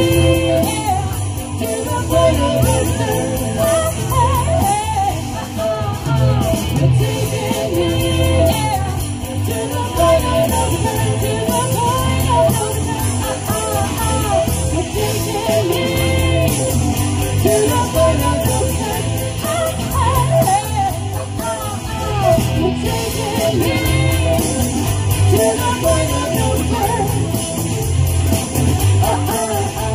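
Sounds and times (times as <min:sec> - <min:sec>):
rock band playing: 0:00.0 - 0:29.9
woman singing lead: 0:00.0 - 0:29.9.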